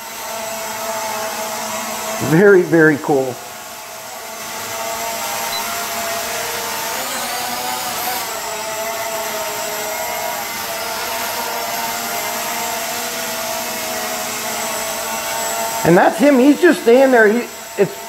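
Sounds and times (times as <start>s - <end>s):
quadcopter propellers buzzing: 0.0s - 18.0s.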